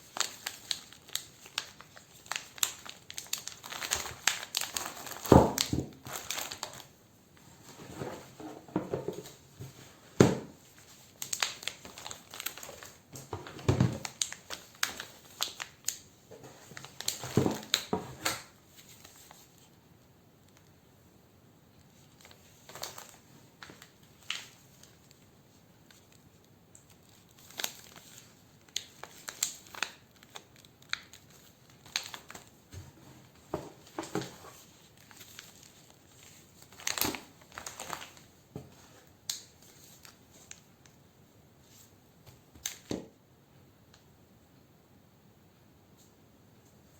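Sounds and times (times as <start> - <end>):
packaging crinkling and rustling: 0.0 - 19.8, 21.8 - 41.0.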